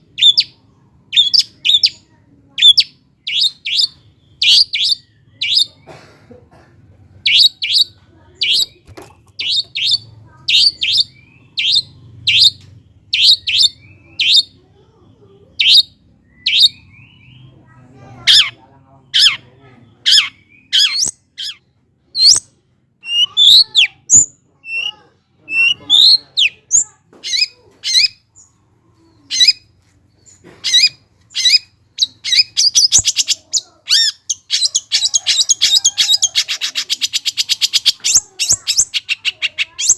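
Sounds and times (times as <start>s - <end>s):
shrike calling and singing: 0.0s - 6.0s, 7.2s - 14.6s, 15.4s - 39.9s.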